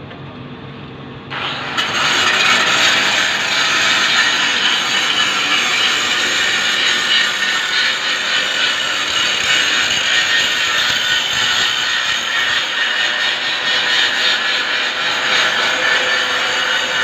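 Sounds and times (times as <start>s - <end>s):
loud mechanical noise with rattling: 0.0s - 17.0s.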